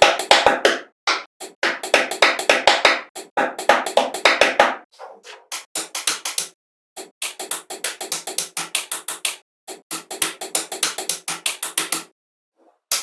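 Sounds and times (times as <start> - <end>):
rapid percussive taps: 0.0 - 4.9, 5.5 - 12.1.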